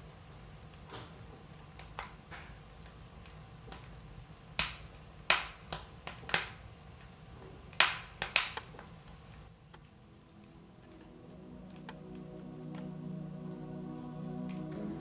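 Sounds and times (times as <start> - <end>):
wood fire crackling: 0.6 - 15.0.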